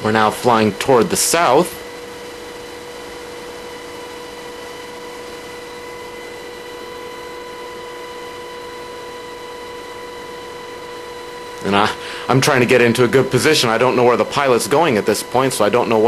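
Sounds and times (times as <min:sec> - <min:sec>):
high pitched whine: 0:00.0 - 0:16.0.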